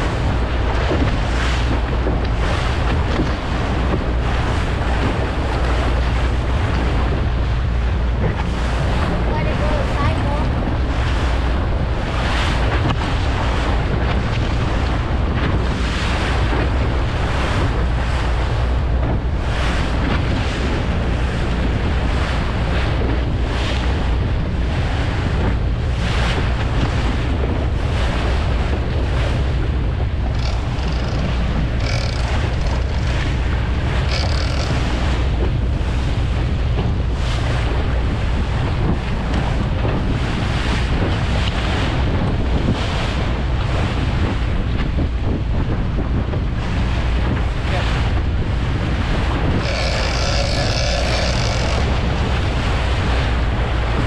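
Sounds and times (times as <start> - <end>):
boat engine humming: 0.0 - 54.0
water rushing past hull: 0.0 - 54.0
wind buffeting microphone: 0.0 - 54.0.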